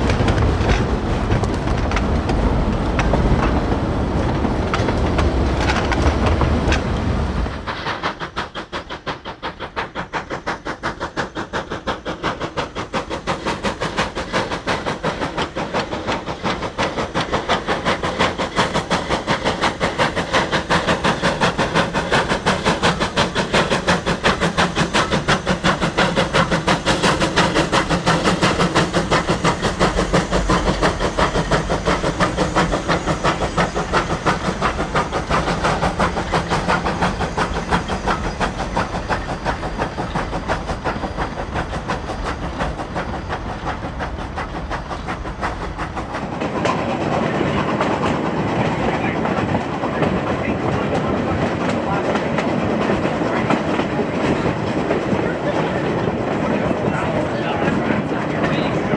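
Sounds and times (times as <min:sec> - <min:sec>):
steam locomotive chuffing: 0:00.0 - 0:58.9.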